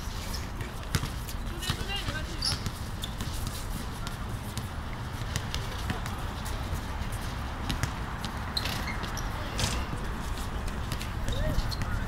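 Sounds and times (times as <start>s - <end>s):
distant indistinct voices: 0.5s - 12.0s.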